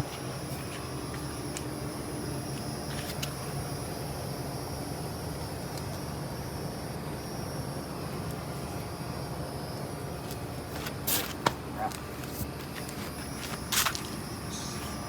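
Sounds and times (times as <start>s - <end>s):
air conditioning units humming: 0.0s - 15.0s.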